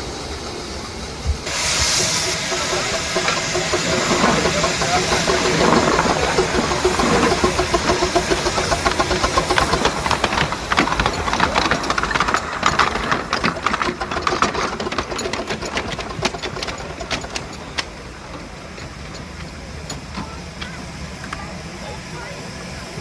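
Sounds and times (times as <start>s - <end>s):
steam locomotive exhaust chuffing: 0.0s - 23.0s.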